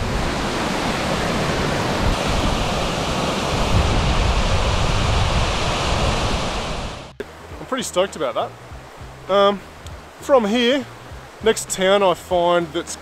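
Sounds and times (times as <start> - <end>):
creek rushing over rocks: 0.0 - 13.0.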